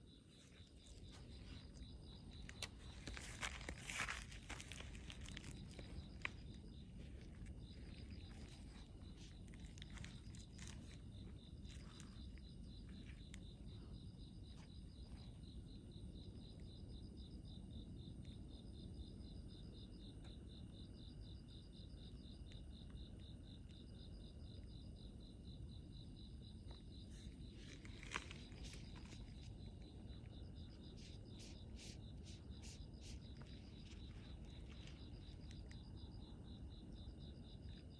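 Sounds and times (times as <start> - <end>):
insects chirping: 0.0 - 37.9.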